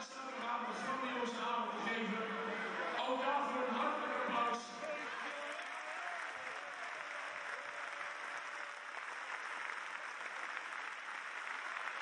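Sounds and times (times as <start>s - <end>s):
crowd applauding: 1.8s - 12.0s.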